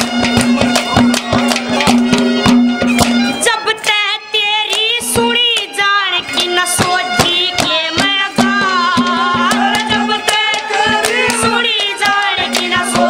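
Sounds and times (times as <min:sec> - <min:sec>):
high melody with fast vibrato: 0:00.0 - 0:13.0
steady drum beats: 0:00.0 - 0:13.0.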